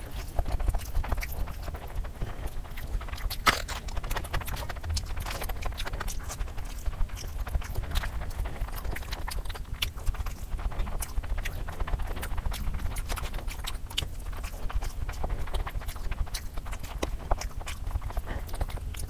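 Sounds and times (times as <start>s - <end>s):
wet chewing and slurping: 0.0s - 19.0s.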